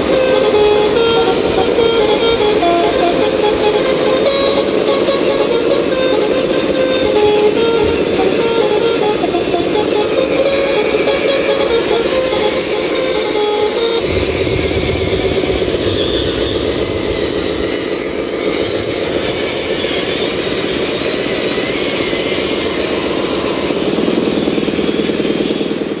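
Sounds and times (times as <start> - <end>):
electric motor whining: 0.0 - 24.2.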